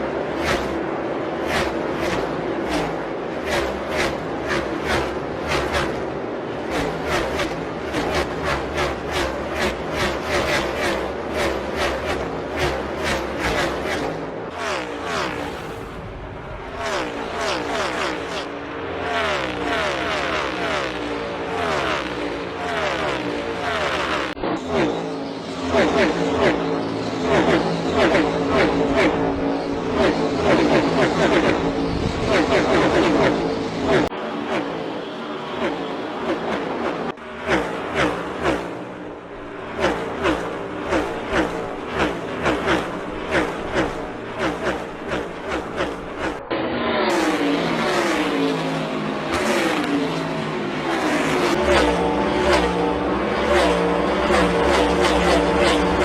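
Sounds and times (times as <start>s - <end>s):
engines downshifting: 0.0s - 56.0s
race car engines passing: 0.0s - 56.0s.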